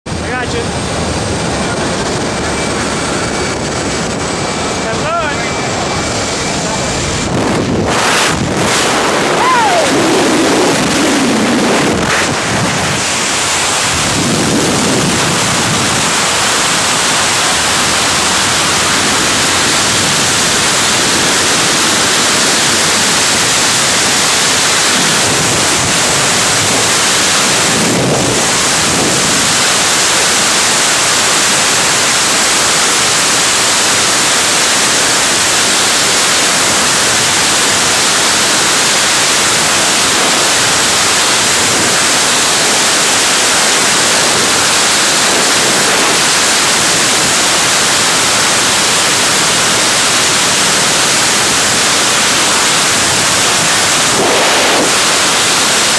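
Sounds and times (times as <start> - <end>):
loud wind rushing over microphone: 0.1 - 55.9.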